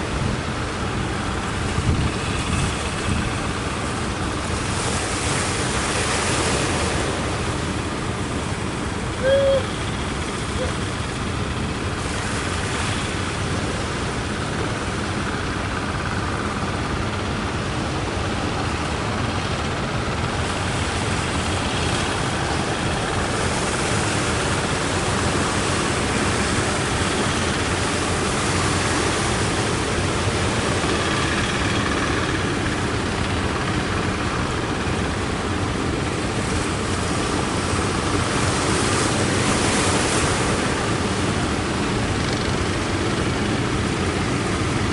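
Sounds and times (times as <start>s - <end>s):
wind blowing over microphone: 0.0s - 44.9s.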